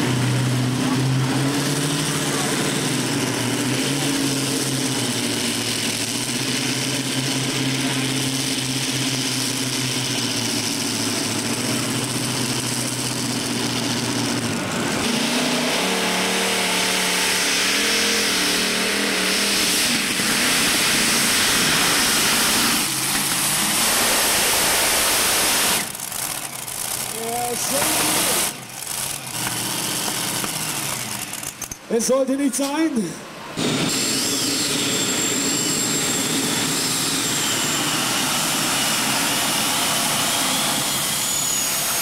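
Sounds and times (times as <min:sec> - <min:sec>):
tractor engines idling and revving: 0:00.0 - 0:42.0.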